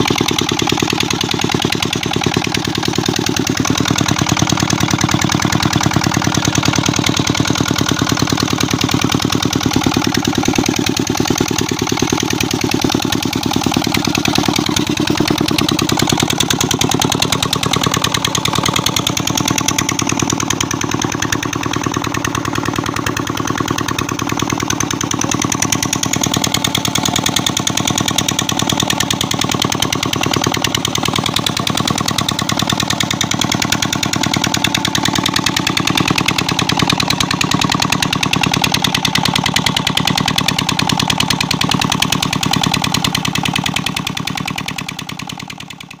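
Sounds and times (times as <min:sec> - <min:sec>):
diesel engine running under load: 0:00.0 - 0:46.0.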